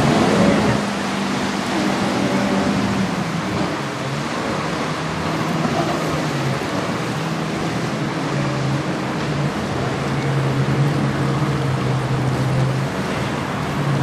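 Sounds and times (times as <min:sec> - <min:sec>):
jet ski engine: 0:00.0 - 0:14.0
waves: 0:00.0 - 0:14.0
wind: 0:00.0 - 0:14.0.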